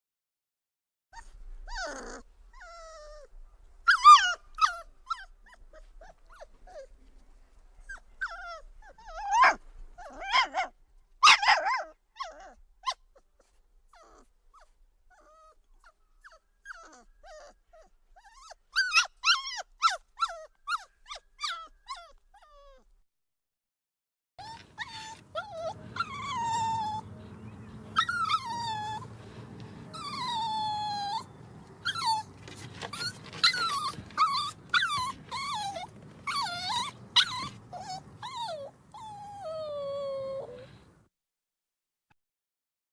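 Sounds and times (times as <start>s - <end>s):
puppy whimpering and yipping: 1.2s - 7.0s, 7.8s - 22.9s, 24.4s - 40.8s.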